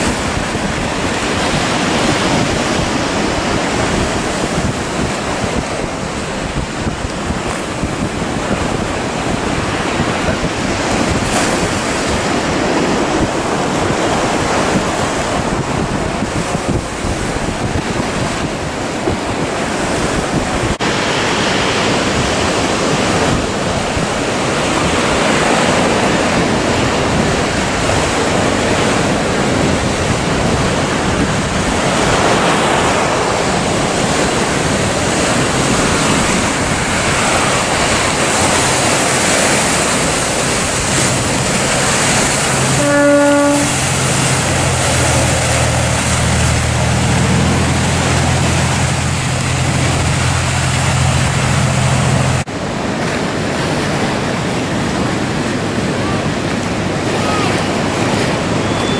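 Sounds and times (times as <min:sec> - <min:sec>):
heavy surf breaking: 0:00.0 - 0:58.9
wind buffeting microphone: 0:00.0 - 0:58.9.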